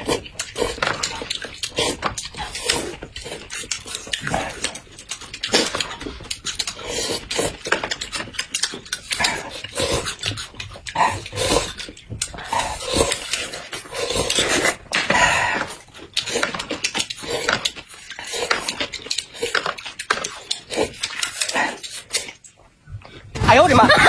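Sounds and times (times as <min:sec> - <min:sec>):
noodles slurped: 0:00.0 - 0:22.6
wet chewing: 0:00.0 - 0:23.2.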